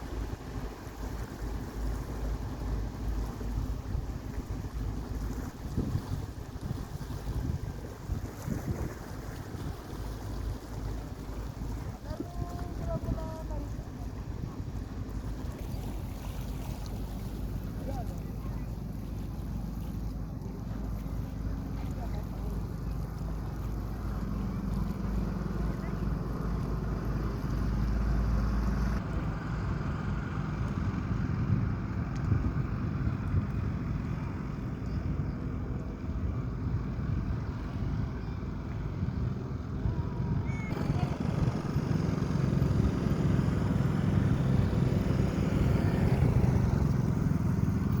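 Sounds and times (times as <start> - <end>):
motor engines rumbling: 0.0 - 48.0
wind buffeting microphone: 0.0 - 48.0.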